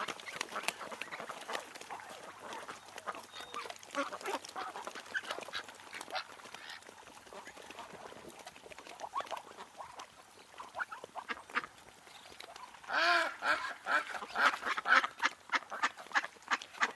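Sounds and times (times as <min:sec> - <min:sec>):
ducks quacking: 0:00.0 - 0:11.8, 0:12.4 - 0:16.9.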